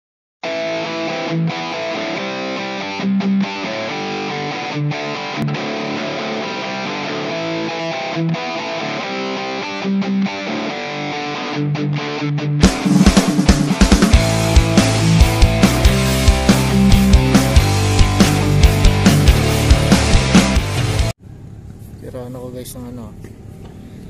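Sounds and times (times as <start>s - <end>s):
guitar instrumental music: 0.4s - 21.1s.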